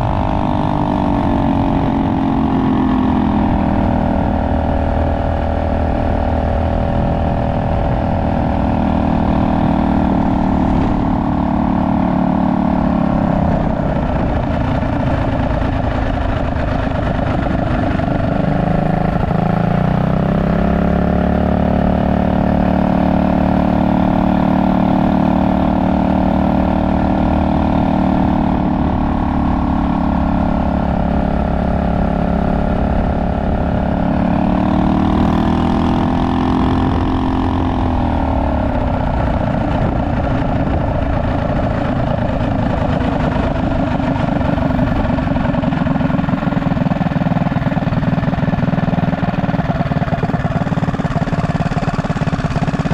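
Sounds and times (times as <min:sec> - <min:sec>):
minibike engine running: 0:00.0 - 0:52.9.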